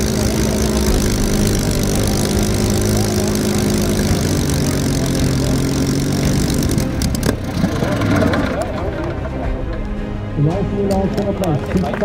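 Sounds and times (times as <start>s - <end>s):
propeller aircraft engine idling: 0.0s - 12.0s.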